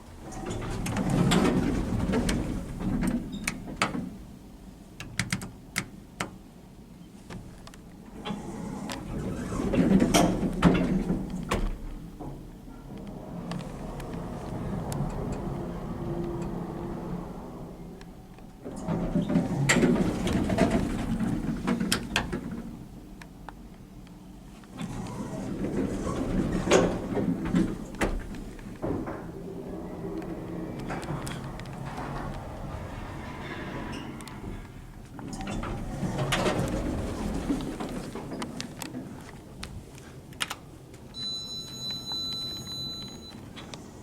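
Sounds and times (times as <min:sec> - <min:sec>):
lift moving rumble: 0:00.0 - 0:05.0, 0:08.0 - 0:44.0.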